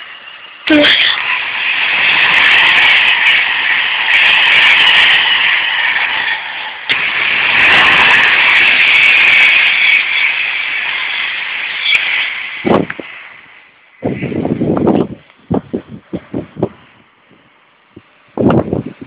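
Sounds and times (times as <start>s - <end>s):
electric train passing at speed: 0.0s - 19.0s.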